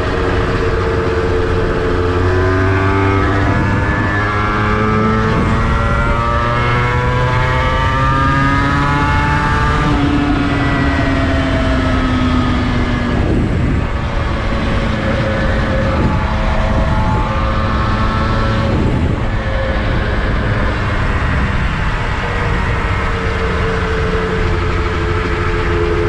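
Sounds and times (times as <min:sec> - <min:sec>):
low rush of noise: 0:00.0 - 0:26.0
two-stroke motorcycle engine: 0:00.0 - 0:26.0.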